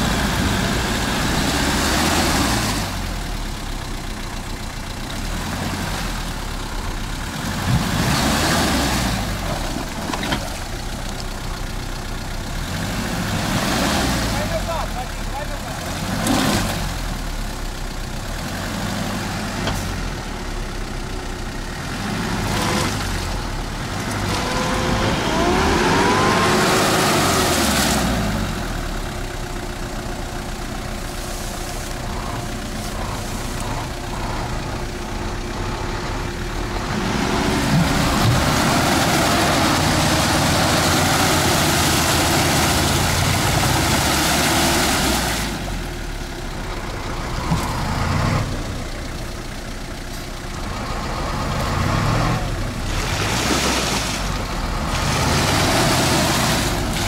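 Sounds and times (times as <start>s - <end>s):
engine running and revving: 0.0s - 57.0s.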